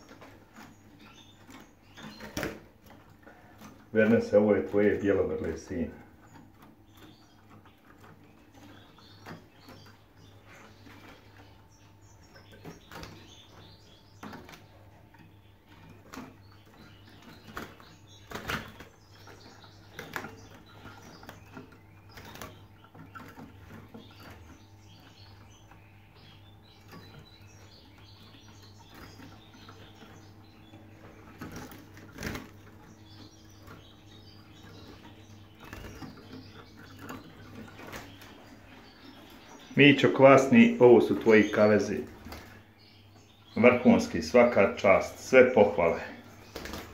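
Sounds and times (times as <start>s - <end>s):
birds calling: 0.0s - 46.9s
birds fluttering: 0.0s - 46.9s.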